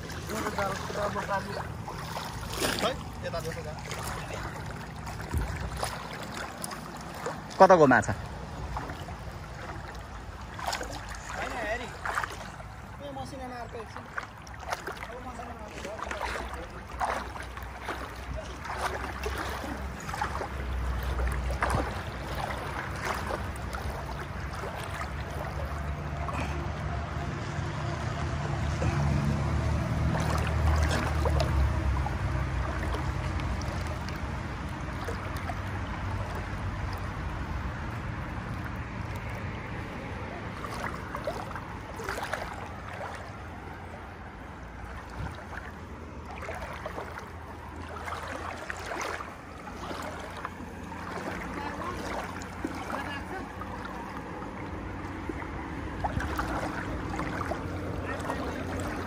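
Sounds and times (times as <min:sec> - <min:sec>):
water splashing around wading legs: 0:00.0 - 0:59.0.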